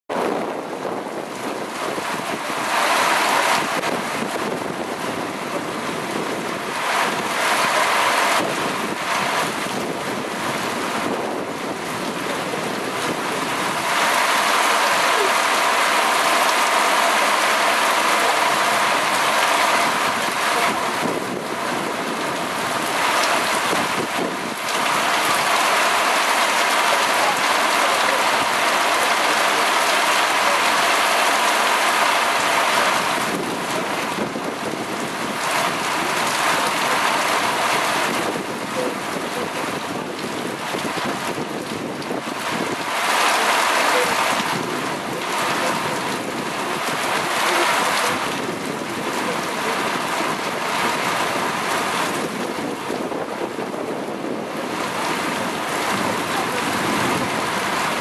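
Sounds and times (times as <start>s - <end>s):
wind buffeting microphone: 0.1s - 31.0s, 31.8s - 58.0s
heavy rain hissing: 0.2s - 58.0s.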